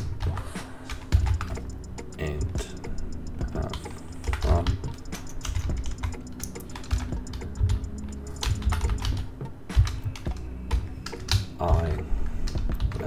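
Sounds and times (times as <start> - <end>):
computer keyboard typing: 0.0 - 13.0.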